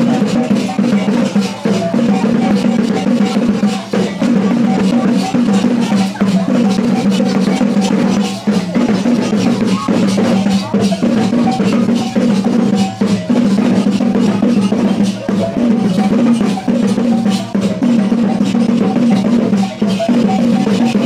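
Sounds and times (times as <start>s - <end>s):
drum strokes: 0.0s - 21.0s.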